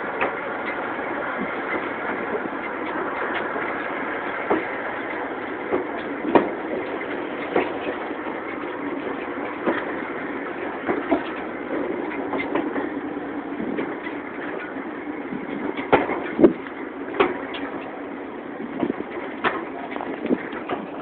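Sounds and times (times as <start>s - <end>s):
train clanks and knocks: 0.0s - 21.0s
train wheels rumbling on rail: 0.0s - 21.0s.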